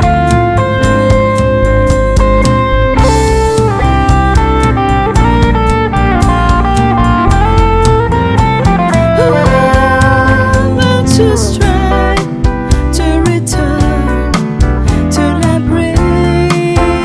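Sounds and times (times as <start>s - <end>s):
guitar melody: 0.0s - 17.0s
live band playing a ballad: 0.0s - 17.0s.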